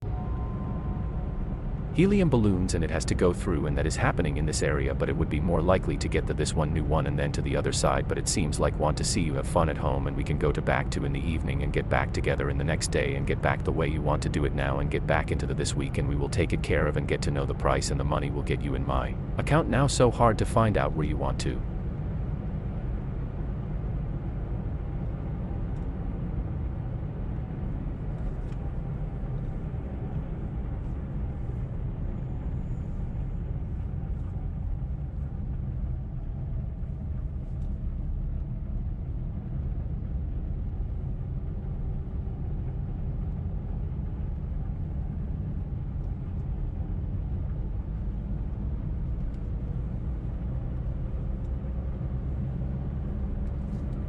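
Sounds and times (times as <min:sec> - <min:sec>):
car driving deep rumble: 0:00.0 - 0:54.0.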